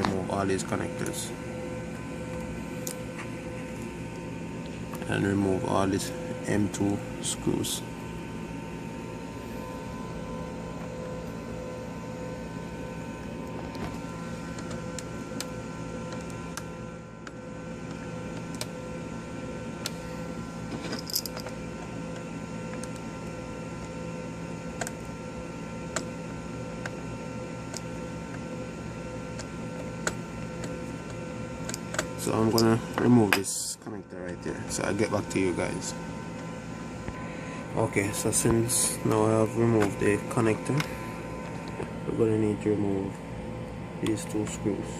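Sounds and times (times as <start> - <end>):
steady background hum: 0.0 - 44.9.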